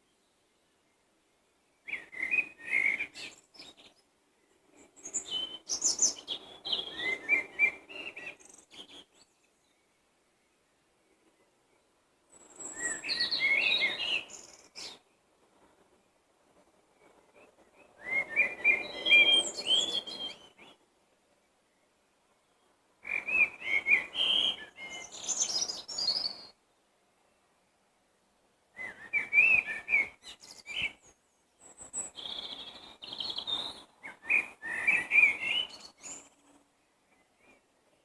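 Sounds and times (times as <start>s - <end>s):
songbird singing: 0.0s - 38.0s.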